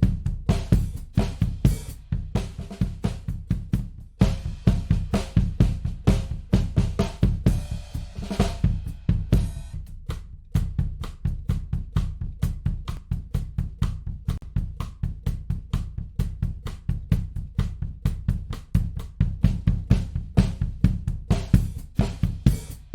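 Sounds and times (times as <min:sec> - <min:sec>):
drum kit playing fast beat: 0:00.0 - 0:22.9.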